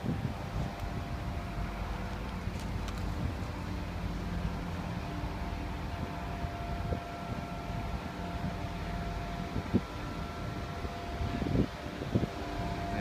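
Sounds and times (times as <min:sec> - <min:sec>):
faint held whine: 0:00.0 - 0:13.0
low engine hum: 0:00.0 - 0:13.0.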